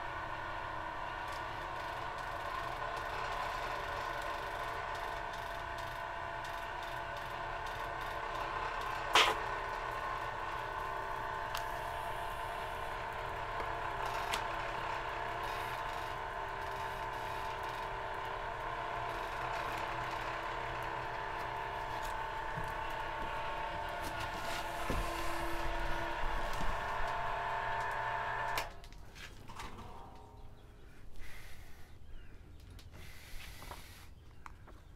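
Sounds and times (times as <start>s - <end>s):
generator whine of fixed tones: 0.0s - 29.0s.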